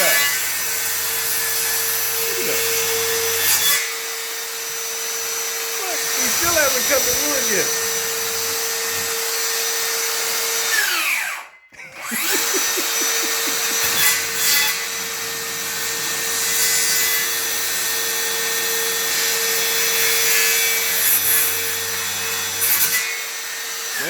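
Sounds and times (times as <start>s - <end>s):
circular saw running: 0.0s - 22.6s.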